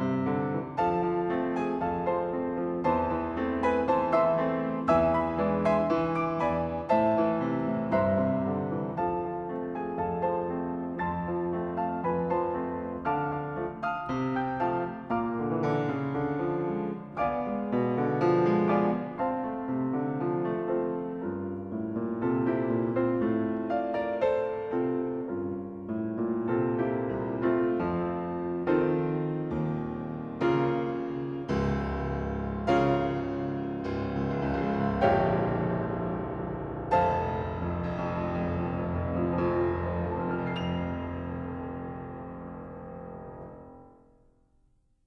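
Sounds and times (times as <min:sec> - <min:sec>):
solo piano piece: 0:00.0 - 0:44.3.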